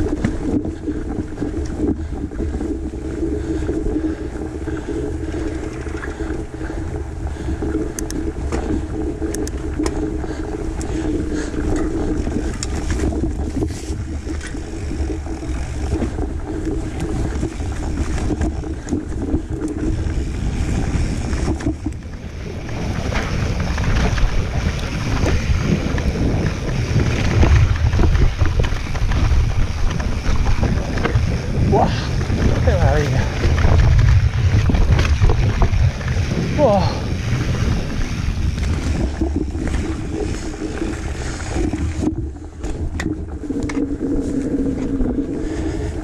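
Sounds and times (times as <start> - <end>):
bike rattles: 0.0 - 46.0
tyres rumbling on dirt: 0.0 - 46.0
wind buffeting microphone: 0.0 - 46.0.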